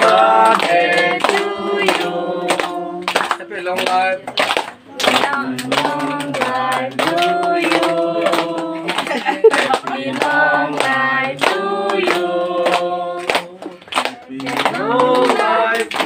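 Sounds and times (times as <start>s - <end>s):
group singing: 0.0s - 16.0s
hands clapping in time: 0.0s - 16.0s.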